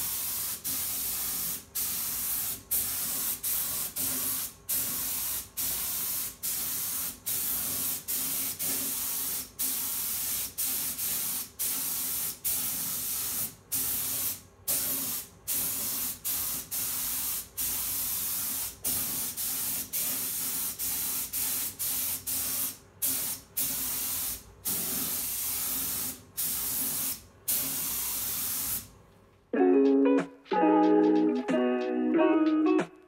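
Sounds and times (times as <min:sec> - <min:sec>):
paint spray gun hissing: 0:00.0 - 0:28.9.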